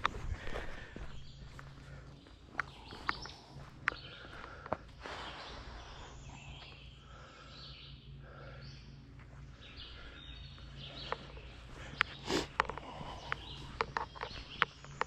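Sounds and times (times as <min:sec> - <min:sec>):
faint birdsong: 0:00.0 - 0:15.0
low steady background hum: 0:00.0 - 0:15.0.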